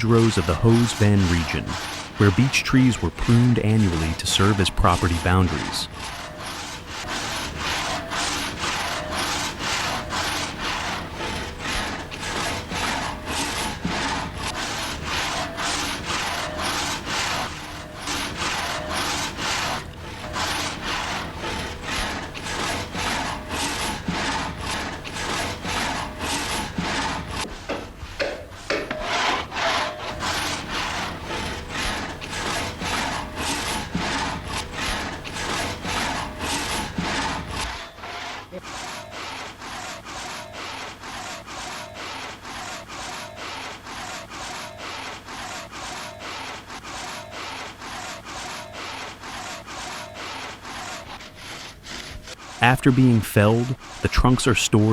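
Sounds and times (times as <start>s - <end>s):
hand saw cutting wood: 0.0s - 54.9s.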